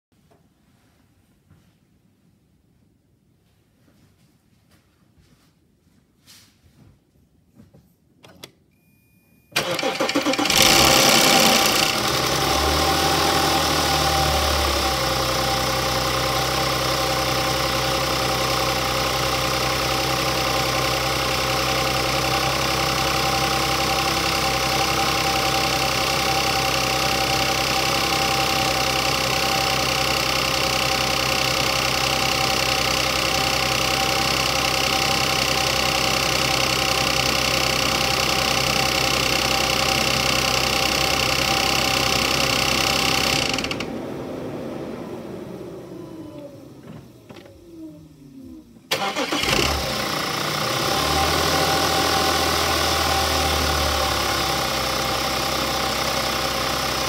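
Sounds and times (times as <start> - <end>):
car engine starting and idling: 9.6 - 57.0.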